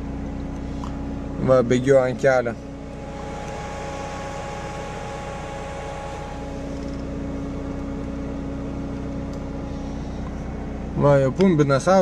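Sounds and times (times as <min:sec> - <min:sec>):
car engine humming: 0:00.0 - 0:12.0
steady engine tone: 0:00.0 - 0:12.0.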